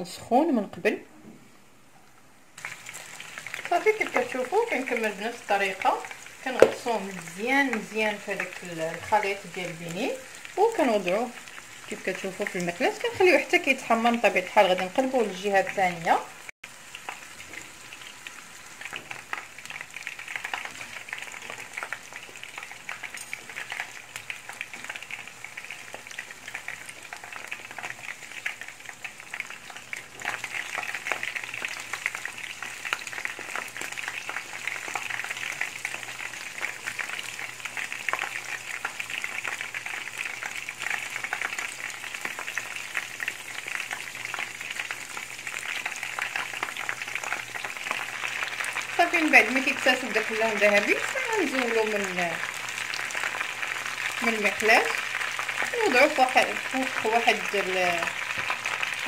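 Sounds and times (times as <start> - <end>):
shrimp sizzling in hot oil: 2.5 - 59.0.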